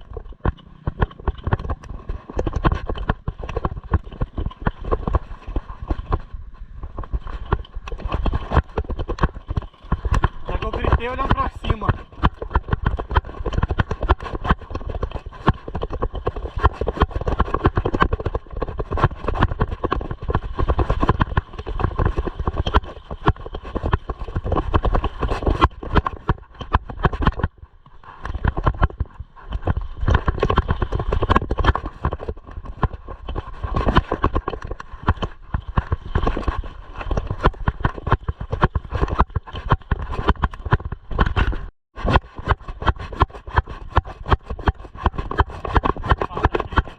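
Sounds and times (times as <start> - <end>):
mountain bike rattling on dirt: 0.0 - 46.9
wind rumbling on microphone: 0.0 - 46.9.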